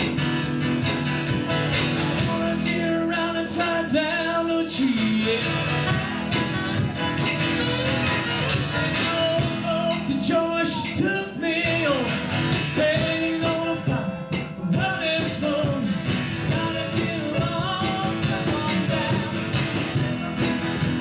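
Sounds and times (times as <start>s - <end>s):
strummed acoustic guitar: 0.0s - 21.0s
person singing: 1.5s - 21.0s.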